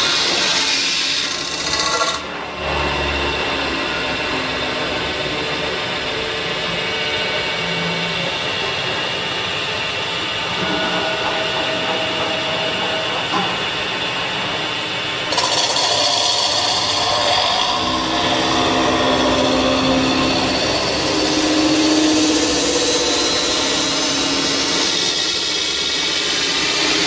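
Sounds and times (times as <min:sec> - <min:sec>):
metal spinning machine running: 0:00.0 - 0:27.0.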